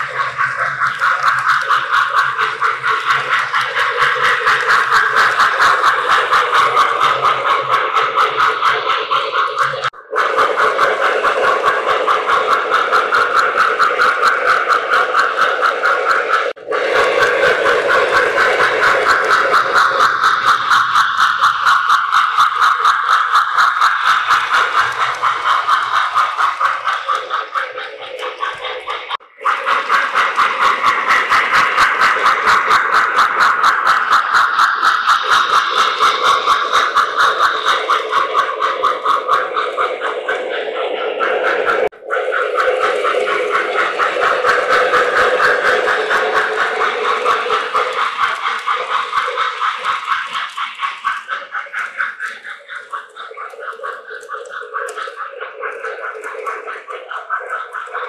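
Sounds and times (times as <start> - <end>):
model train running on track: 0.0 - 58.0.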